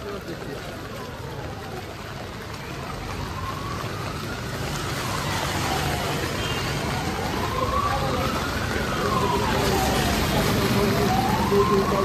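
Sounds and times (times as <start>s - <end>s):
emergency siren wailing: 0.0s - 12.0s
floodwater rushing down street: 0.0s - 12.0s.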